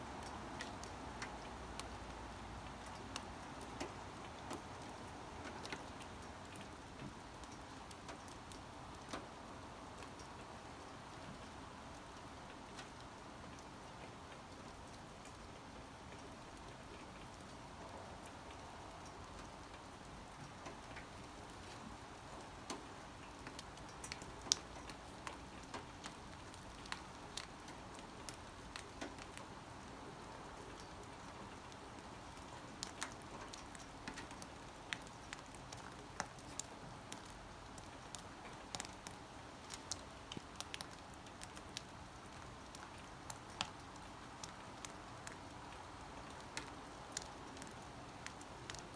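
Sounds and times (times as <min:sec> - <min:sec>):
light rain hiss: 0:00.0 - 0:48.9
raindrops ticking on hard surface: 0:00.2 - 0:48.9.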